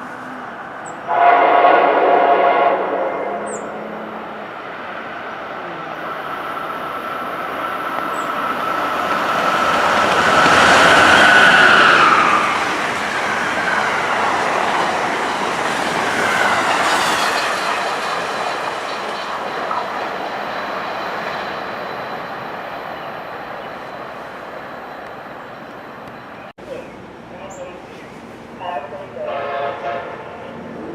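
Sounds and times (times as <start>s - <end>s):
train wheels rushing on rails: 0.0s - 26.5s.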